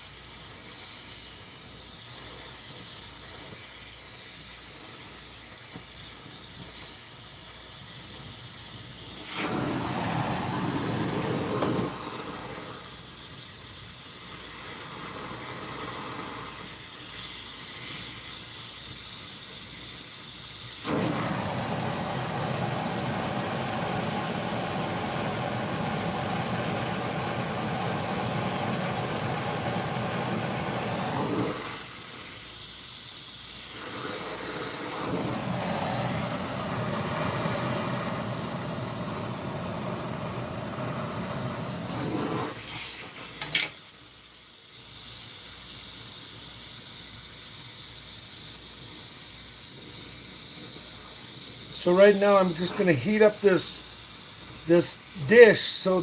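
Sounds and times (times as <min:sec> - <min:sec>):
gas torch flame hissing: 0:00.0 - 0:56.0.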